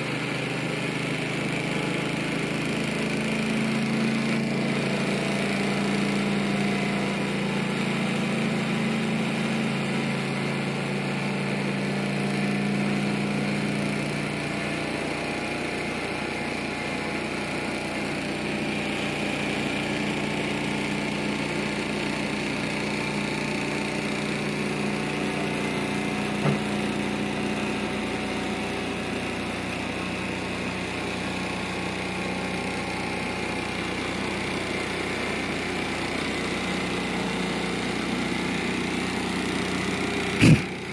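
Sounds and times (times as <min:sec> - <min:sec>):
model stirling engine running: 0:00.0 - 0:40.9.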